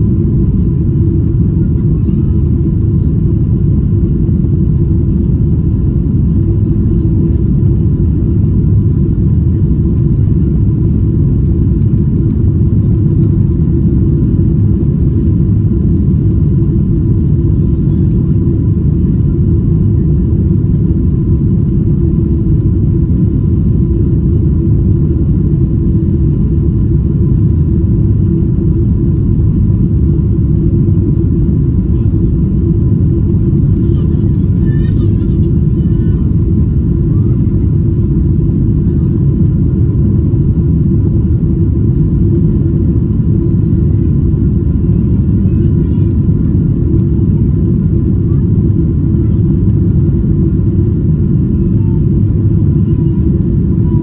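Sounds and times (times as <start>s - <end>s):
aircraft cabin engine rumble: 0.0s - 54.0s
faint constant hum: 0.0s - 54.0s.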